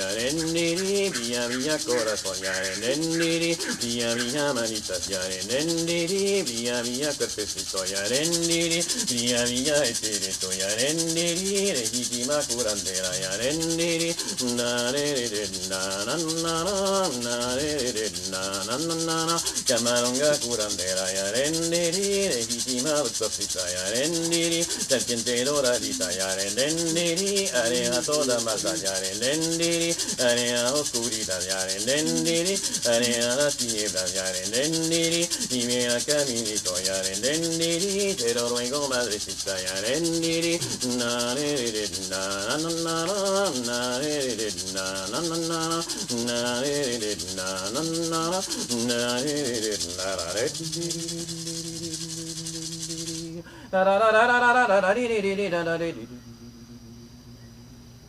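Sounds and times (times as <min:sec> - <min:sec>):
shaken rattle rustling: 0:00.0 - 0:53.4
person singing wordless melody: 0:00.0 - 0:57.2.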